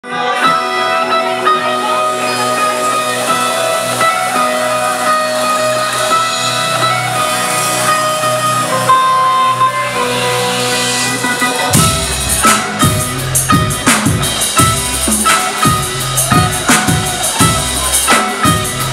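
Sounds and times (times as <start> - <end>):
bass: 0.0 - 18.9
drums: 0.0 - 18.9
electric guitar: 0.0 - 18.9
sustained keyboard notes: 0.0 - 18.9.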